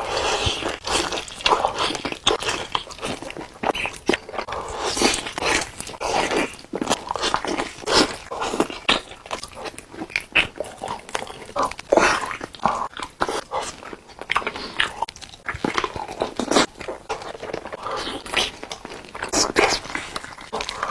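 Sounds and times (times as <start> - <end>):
chewing with crisp crunches: 0.0 - 20.9.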